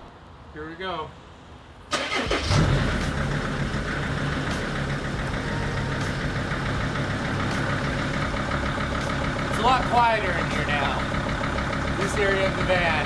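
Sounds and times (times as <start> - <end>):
diesel van engine idling: 2.0 - 13.0.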